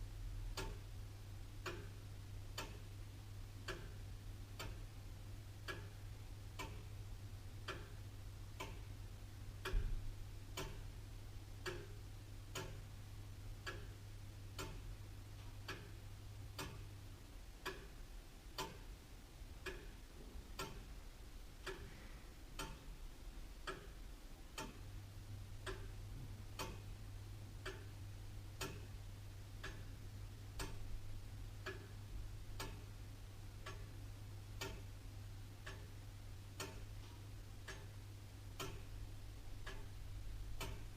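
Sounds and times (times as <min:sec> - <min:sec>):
faint low hum: 0:00.0 - 0:40.9
clock ticking: 0:00.5 - 0:40.9.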